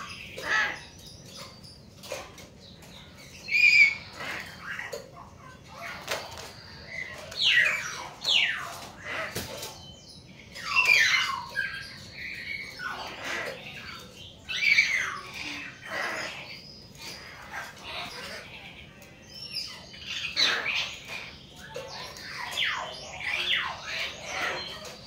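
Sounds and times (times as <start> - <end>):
mynas squawking: 0.0 - 1.4, 3.3 - 9.8, 10.5 - 25.0.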